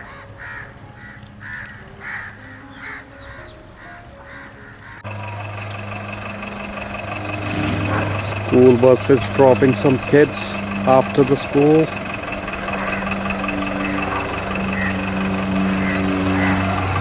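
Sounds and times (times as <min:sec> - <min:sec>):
bird cawing: 0:00.0 - 0:17.0
bus engine idling: 0:00.0 - 0:17.0.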